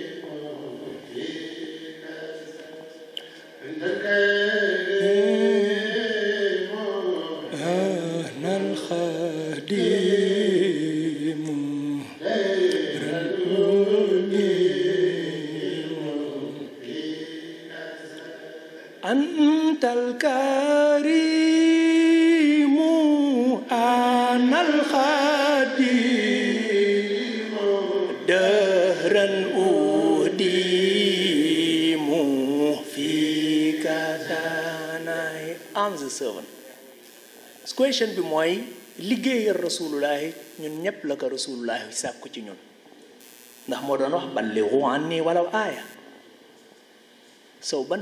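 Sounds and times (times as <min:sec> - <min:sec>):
man chanting into a microphone: 0:00.0 - 0:36.6, 0:37.5 - 0:42.0.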